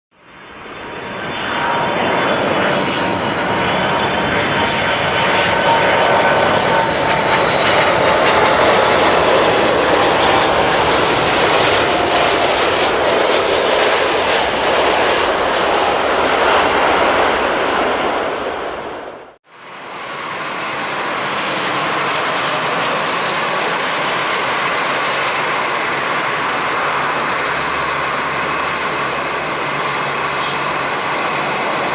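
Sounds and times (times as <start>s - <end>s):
jet engines at takeoff thrust: 0.2s - 31.9s.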